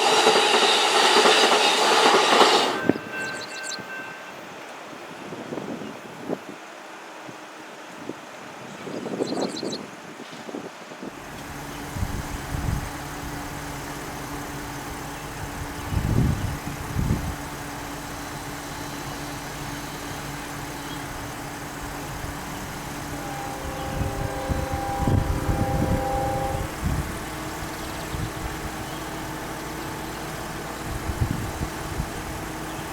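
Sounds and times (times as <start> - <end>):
diesel locomotive engine running: 0.0 - 8.6, 11.0 - 32.9.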